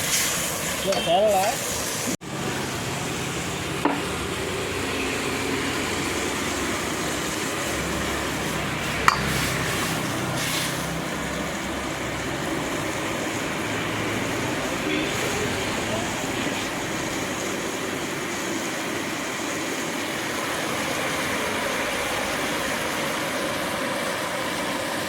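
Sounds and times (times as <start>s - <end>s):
gravy sizzling in a pan: 0.0s - 25.0s.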